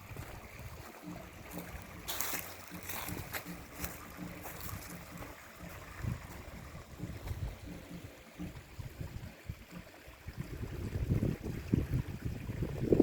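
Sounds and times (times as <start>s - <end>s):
stream trickling: 0.0s - 13.0s
wind rumbling on microphone: 0.0s - 13.0s.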